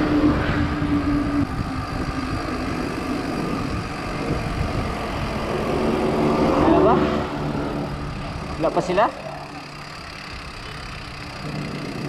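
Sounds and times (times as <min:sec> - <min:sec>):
car traffic passing: 0:00.0 - 0:12.0
road and wind rumble: 0:00.0 - 0:12.0
steady hum: 0:00.0 - 0:12.0.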